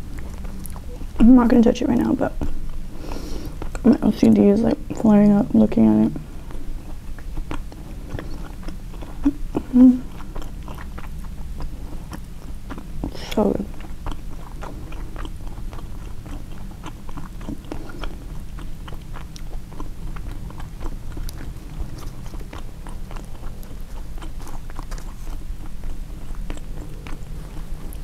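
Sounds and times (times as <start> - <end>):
wet chewing mouth clicks: 0.0 - 1.3, 3.4 - 5.0, 6.4 - 28.0
steady low hum: 0.0 - 28.0.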